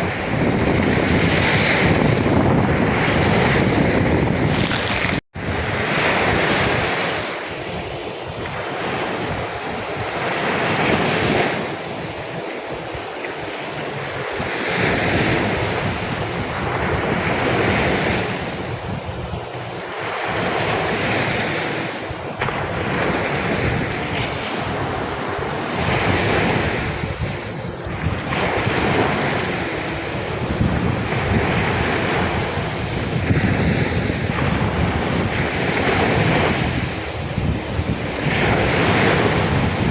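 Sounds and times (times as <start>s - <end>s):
surf breaking on beach: 0.0s - 39.9s
wind buffeting microphone: 0.0s - 39.9s.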